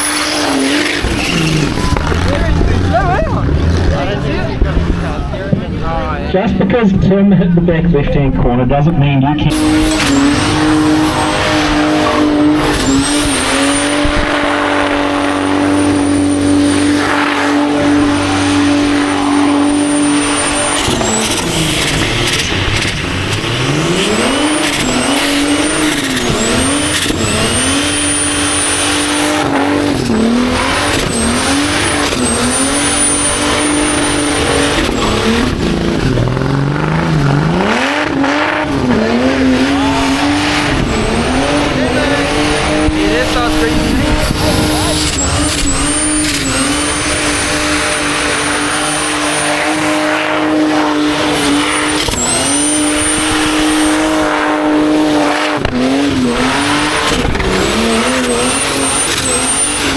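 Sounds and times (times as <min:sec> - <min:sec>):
thin high tyre squeal: 0:00.0 - 0:02.2, 0:09.5 - 0:23.0, 0:23.6 - 0:35.9, 0:37.0 - 0:59.9
car engine revving: 0:00.0 - 0:59.9.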